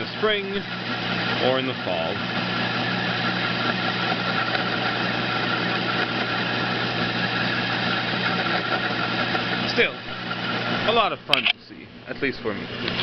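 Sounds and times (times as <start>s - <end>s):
metal lathe humming and whining: 0.0s - 13.0s.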